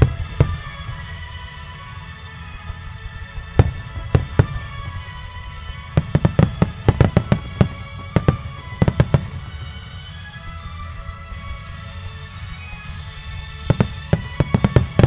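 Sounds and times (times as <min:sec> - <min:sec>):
background music: 0:00.0 - 0:15.0
fireworks bursting with sharp bangs: 0:00.0 - 0:15.0.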